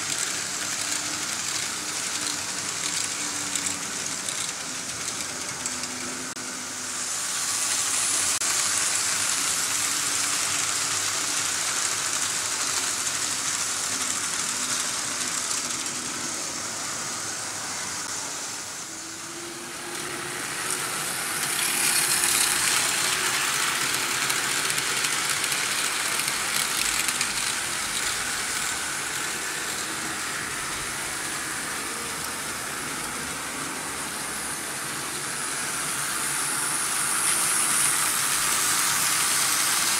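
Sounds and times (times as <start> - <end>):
model train wheels rattling: 0.0 - 6.4, 7.6 - 17.4, 19.8 - 39.9.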